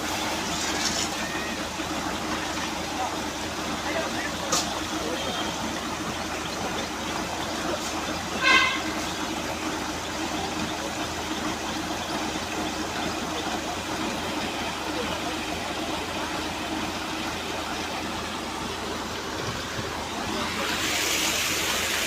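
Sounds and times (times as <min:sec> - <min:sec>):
well washing machine engine running: 0:00.0 - 0:22.0.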